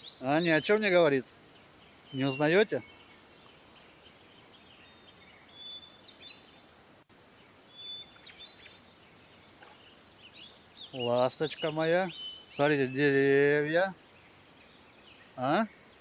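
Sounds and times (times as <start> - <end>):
faint bird chirps and whistles: 0.0 - 16.0.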